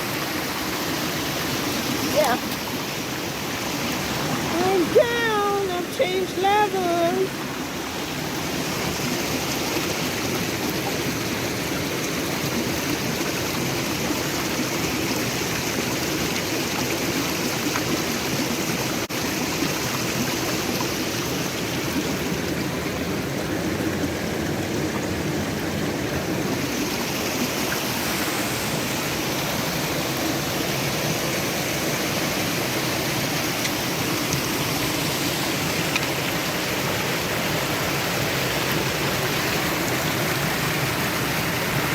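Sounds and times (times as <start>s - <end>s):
stream rushing over stones: 0.0s - 41.9s.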